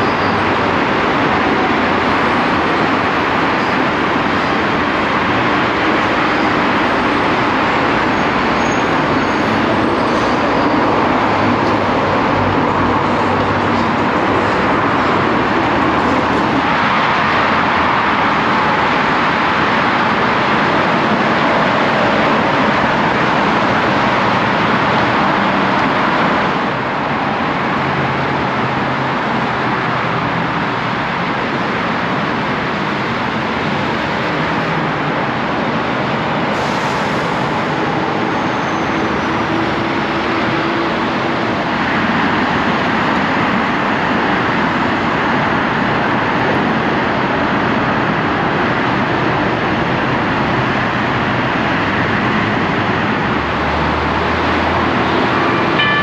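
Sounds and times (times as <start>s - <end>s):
heavy freeway traffic: 0.0s - 56.0s.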